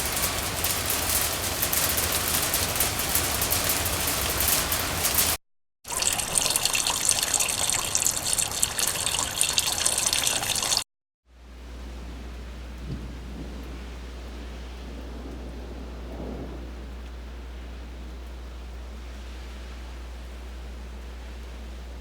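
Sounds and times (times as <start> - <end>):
heavy rainfall hissing: 0.0 - 10.8, 11.6 - 22.0
patter of rain drops: 0.0 - 22.0.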